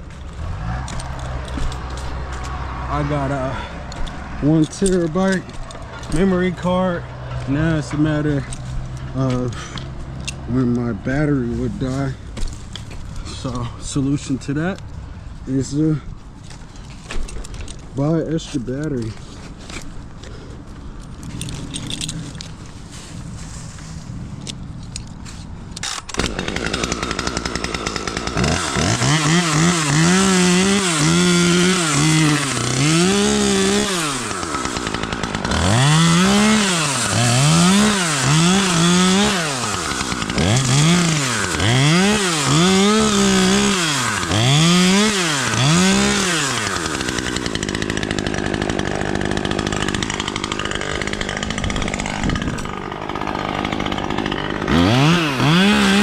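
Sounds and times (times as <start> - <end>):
chainsaw cutting wood: 0.0 - 14.2, 25.1 - 56.0.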